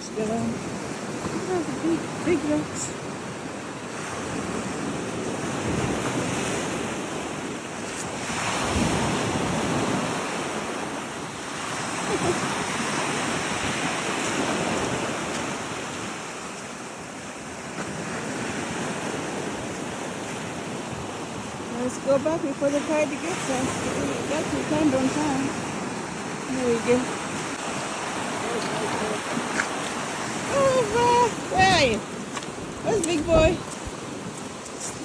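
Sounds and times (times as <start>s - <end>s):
waves washing onto rocky shore: 0.0s - 35.0s
wind buffeting microphone: 0.0s - 35.0s.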